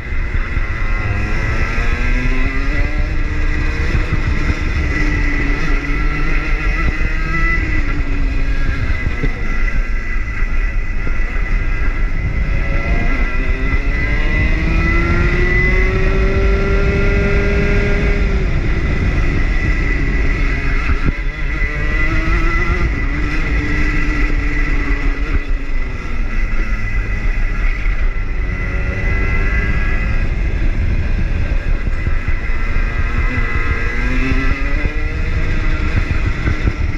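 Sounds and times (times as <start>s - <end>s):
kart engine revving: 0.0s - 36.9s.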